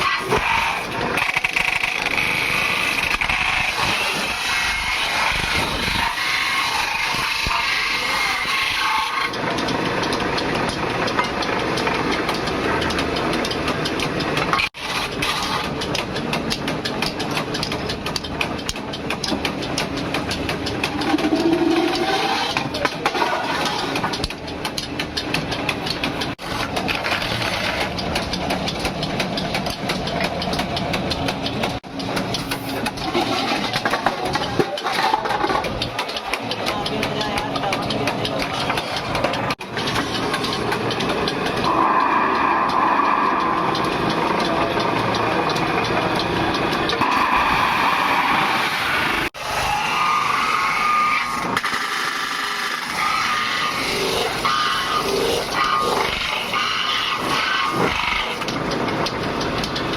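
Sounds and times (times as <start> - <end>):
machinery metallic clatter: 0.0 - 59.9.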